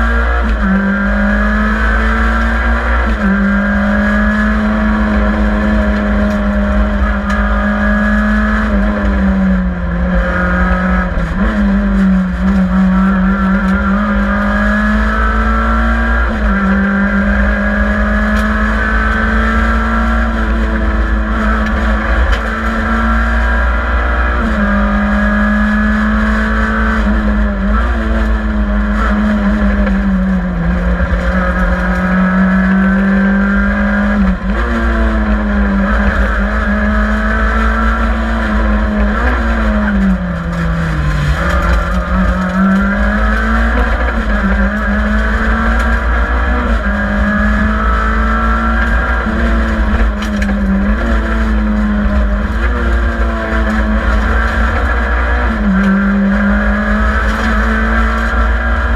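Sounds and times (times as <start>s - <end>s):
rally car engine revving: 0.0s - 58.9s
road and transmission noise: 0.0s - 58.9s.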